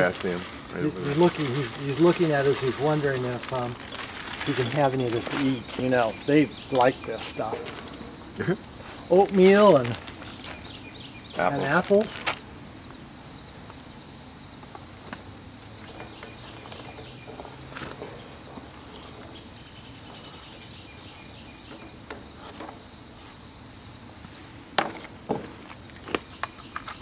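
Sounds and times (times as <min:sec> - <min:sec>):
birds chirping: 0:00.0 - 0:27.0
insects: 0:00.0 - 0:27.0.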